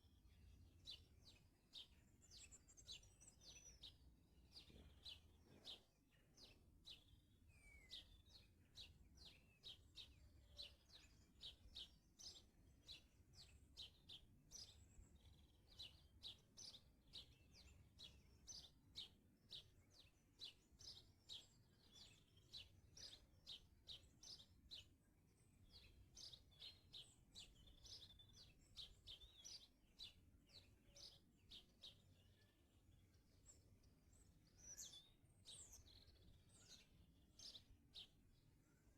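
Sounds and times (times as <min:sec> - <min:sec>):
songbirds chirping faintly: 0:00.0 - 0:38.9.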